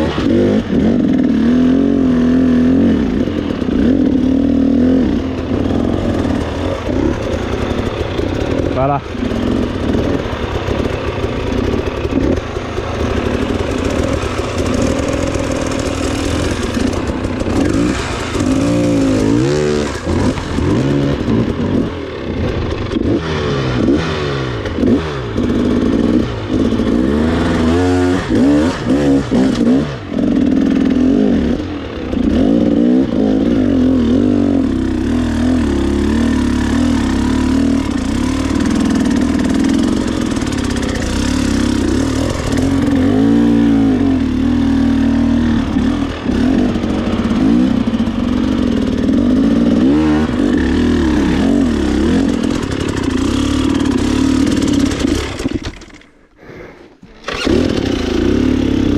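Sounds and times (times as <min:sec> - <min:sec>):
motorcycle engine revving: 0:00.0 - 0:56.4, 0:57.0 - 0:58.9.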